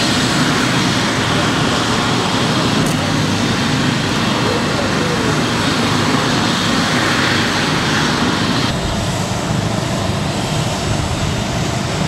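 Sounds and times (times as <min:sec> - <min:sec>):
loud engine drone: 0:00.0 - 0:12.0.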